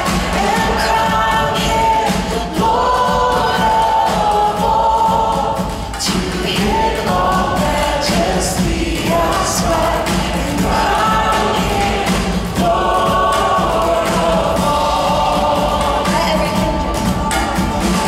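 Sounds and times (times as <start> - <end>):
band and orchestra: 0.0 - 18.0
choir singing a hymn: 0.0 - 18.0
drum hits: 0.0 - 18.0.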